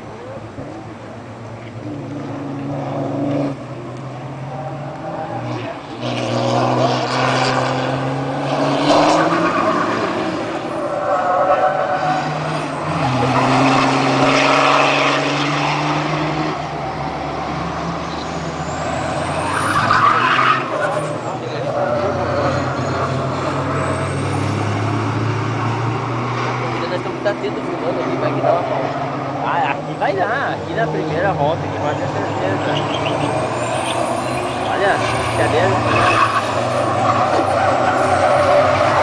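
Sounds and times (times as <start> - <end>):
racing trucks passing at speed: 1.6 - 39.0.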